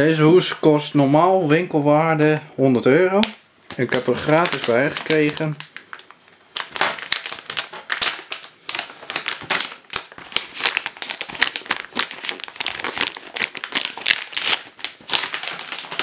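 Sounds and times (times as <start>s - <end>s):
plastic packaging crinkling: 3.2s - 16.0s.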